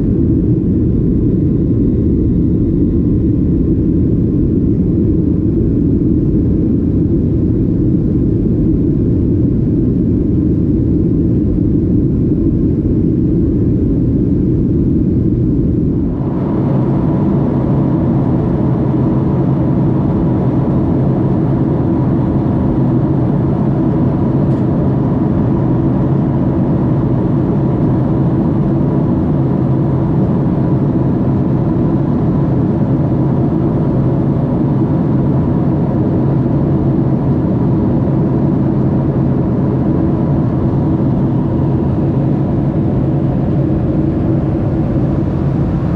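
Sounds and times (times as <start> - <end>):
jet engine and airflow rumble: 0.0 - 45.9
steady whine: 0.0 - 45.9.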